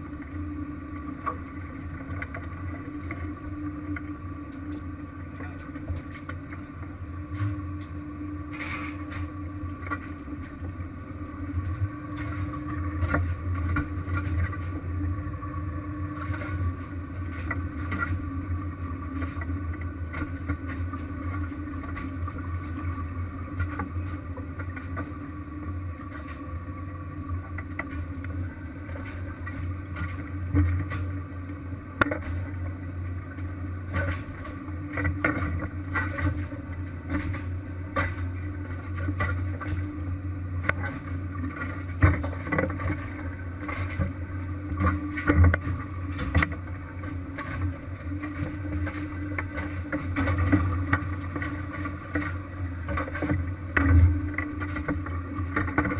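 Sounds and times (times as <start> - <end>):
boat engine humming: 0.0 - 55.9.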